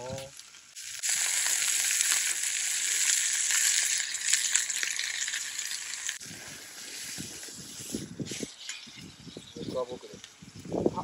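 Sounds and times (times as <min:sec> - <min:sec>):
steak sizzling in hot oil: 0:00.0 - 0:10.6.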